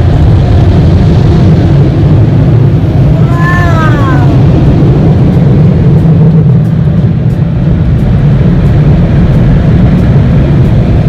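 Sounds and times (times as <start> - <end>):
car wash dryer blowers: 0.0 - 11.0.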